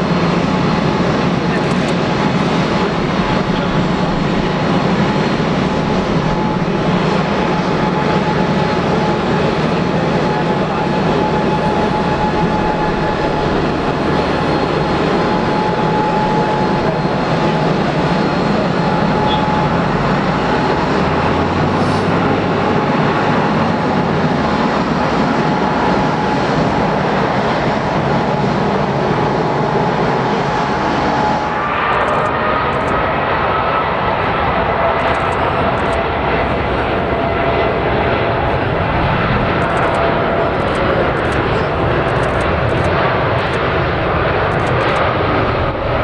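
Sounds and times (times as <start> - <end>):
jet engines idling: 0.0 - 46.0.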